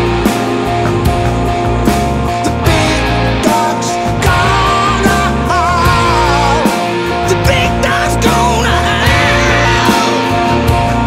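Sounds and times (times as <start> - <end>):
electric guitar lead: 0.0 - 11.0
hard rock band playing: 0.0 - 11.0.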